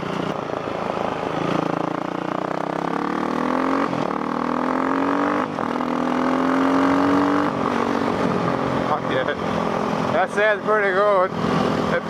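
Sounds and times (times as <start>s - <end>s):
dirt bike accelerating through gears: 0.0s - 10.2s.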